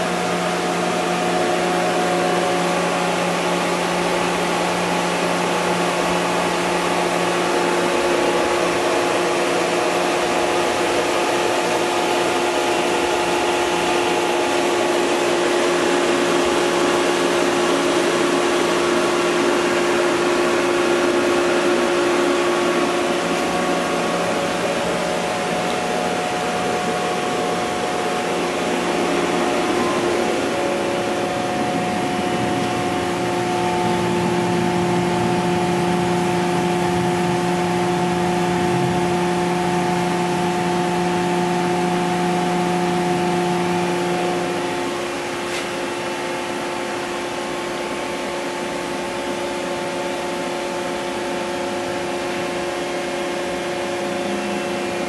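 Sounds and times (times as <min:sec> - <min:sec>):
electrical hum: 0:00.0 - 0:55.0
machine cooling fans and motors: 0:00.0 - 0:55.0.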